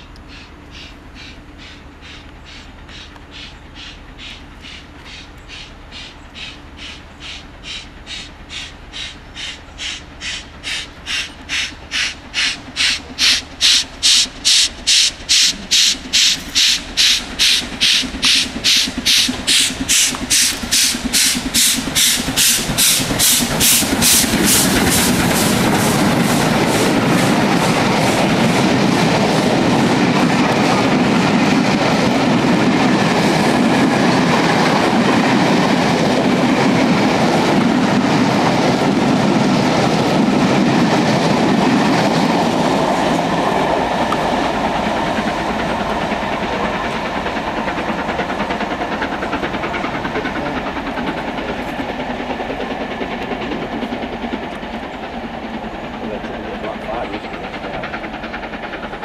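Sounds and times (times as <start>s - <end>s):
train wheels clacking over rail joints: 0.1s - 59.0s.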